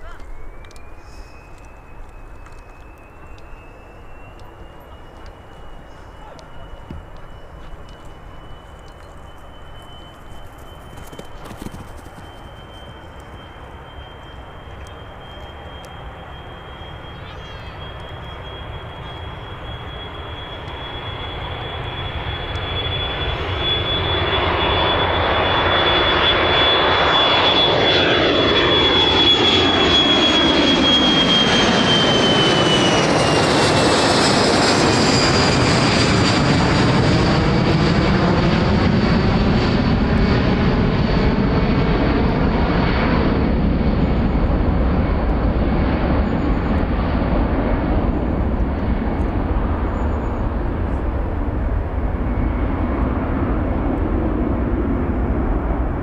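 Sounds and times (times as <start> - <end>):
jet engines whining and rumbling: 0.0 - 56.0.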